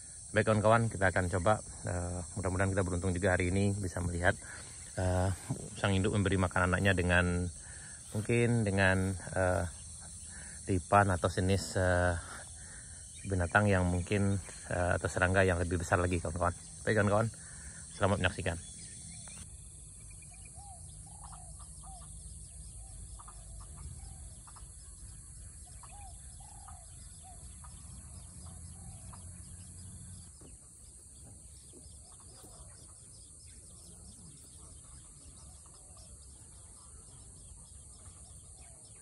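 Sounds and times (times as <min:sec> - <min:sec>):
small birds chirping: 0:00.0 - 0:39.0
steady high-pitched hiss: 0:00.0 - 0:39.0.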